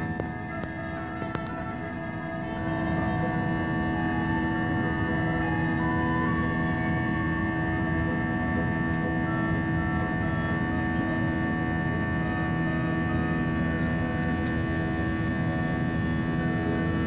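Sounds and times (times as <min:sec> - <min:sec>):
constant whine: 0:00.0 - 0:17.0
humming tones: 0:00.0 - 0:17.0
jet engines droning: 0:00.0 - 0:17.0.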